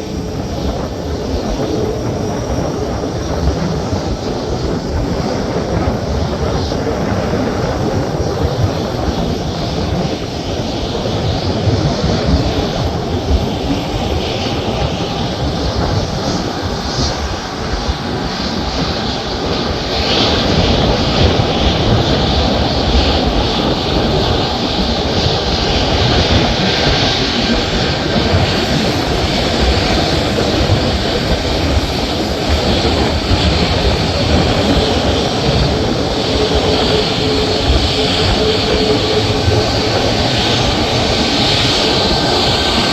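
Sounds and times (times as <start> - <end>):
airliner engines rushing: 0.0 - 42.9.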